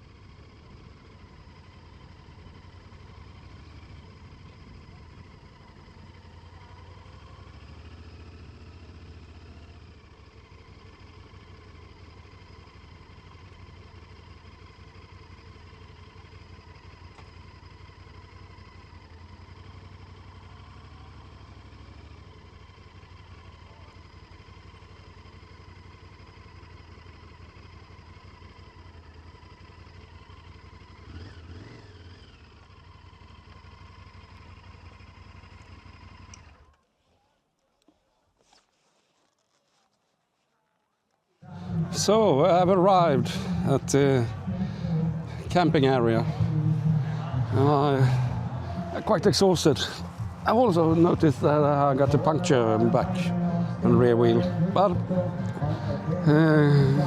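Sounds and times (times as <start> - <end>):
motorcycle engine running: 0.0 - 36.8, 41.4 - 57.0.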